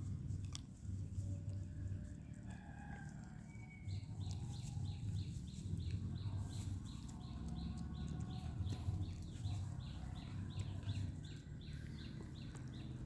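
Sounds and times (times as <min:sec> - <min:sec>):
puppy lapping milk: 0:00.0 - 0:13.0.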